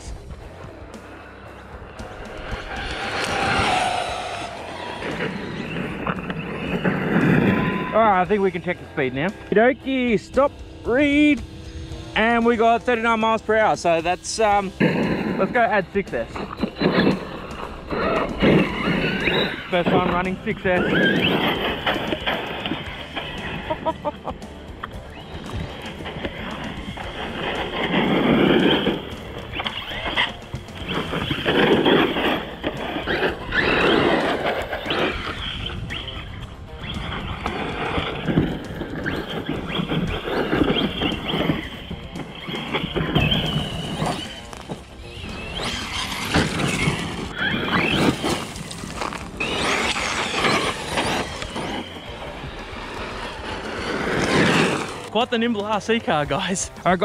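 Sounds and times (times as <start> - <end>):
electric motor whining: 0.0 - 55.1
tyres skidding over gravel: 0.0 - 57.0.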